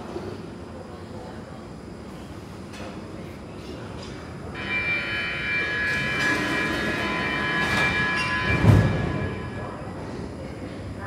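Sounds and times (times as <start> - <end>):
high multi-tone train whine: 0.0 - 11.0.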